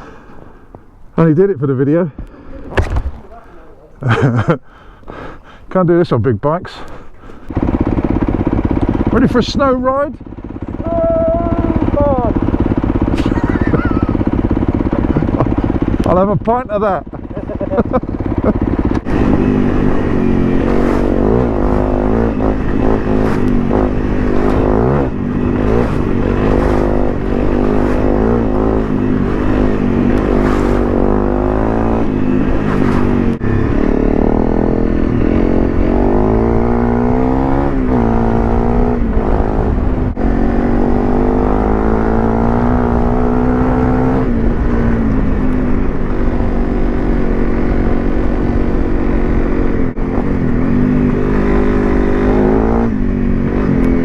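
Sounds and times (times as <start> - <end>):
motorcycle engine revving: 6.9 - 54.0.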